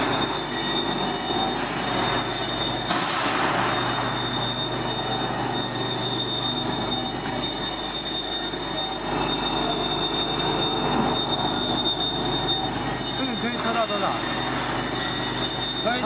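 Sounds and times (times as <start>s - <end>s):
vacuum pump running with whine: 0.0s - 16.0s.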